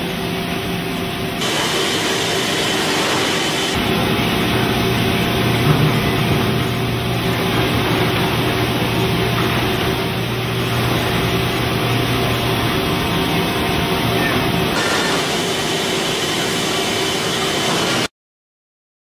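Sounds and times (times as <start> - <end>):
milling machine spindle and cutting: 1.4 - 18.1.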